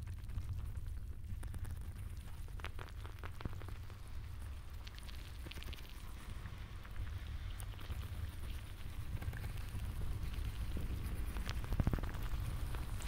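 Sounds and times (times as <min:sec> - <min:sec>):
crackles and clicks: 0:00.0 - 0:13.0
steady low rumble: 0:00.0 - 0:13.0.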